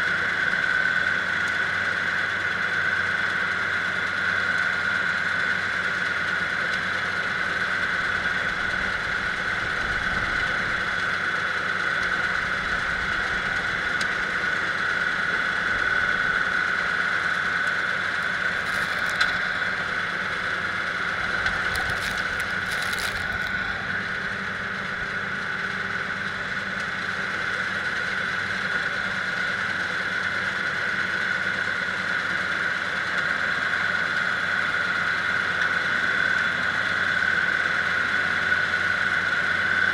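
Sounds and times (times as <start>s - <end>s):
diesel engine running: 0.0s - 39.9s
high-pitched whine: 0.0s - 39.9s.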